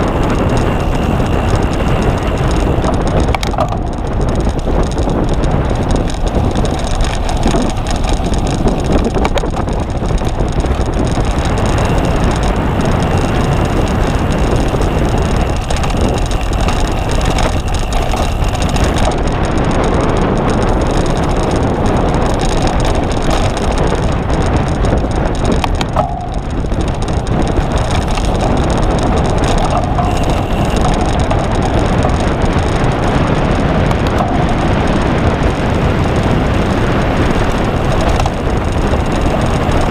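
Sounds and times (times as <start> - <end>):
bike rattling over rough ground: 0.0 - 39.9.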